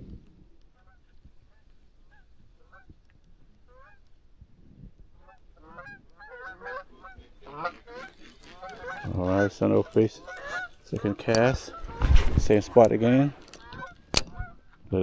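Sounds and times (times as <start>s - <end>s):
geese honking: 0.7s - 3.0s, 3.6s - 4.1s, 5.2s - 15.0s.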